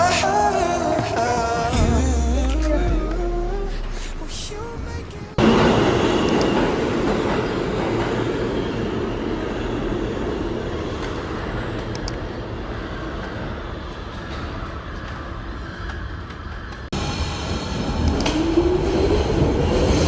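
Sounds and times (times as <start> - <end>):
train running: 0.0 - 20.0.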